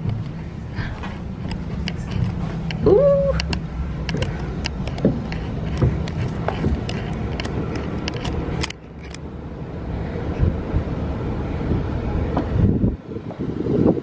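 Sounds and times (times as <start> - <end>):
city hum: 0.0 - 14.0
distant traffic: 0.0 - 14.0
low rumble: 0.0 - 14.0.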